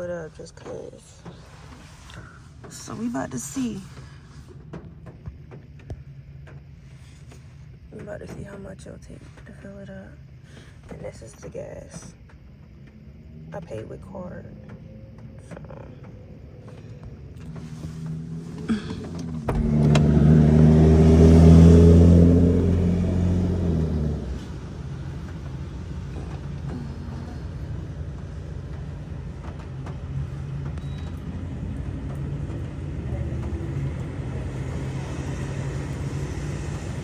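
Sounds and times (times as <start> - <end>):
car engine humming: 0.0 - 37.0.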